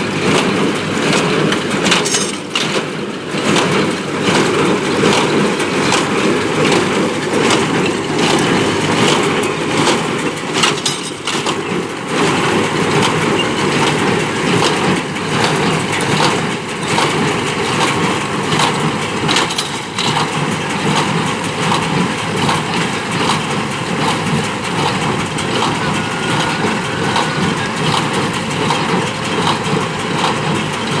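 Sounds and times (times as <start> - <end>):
tractor engine running: 0.0 - 31.0
baler clattering knocks: 0.2 - 31.0.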